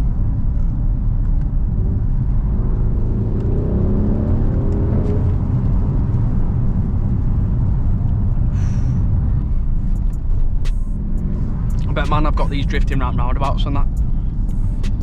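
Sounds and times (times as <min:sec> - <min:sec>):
car engine rumbling: 0:00.0 - 0:15.0
road noise: 0:00.0 - 0:15.0.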